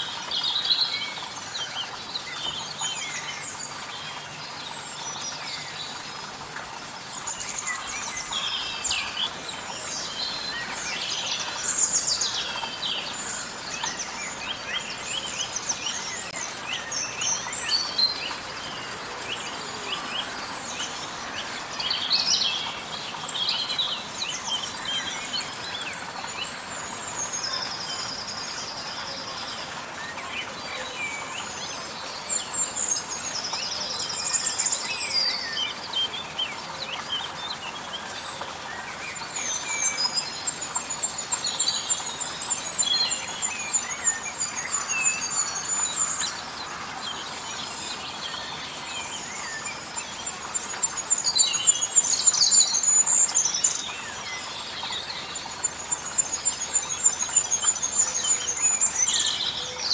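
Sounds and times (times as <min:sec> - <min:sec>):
faint outdoor hiss: 0:00.0 - 0:59.9
songbirds singing and calling: 0:00.0 - 0:59.9.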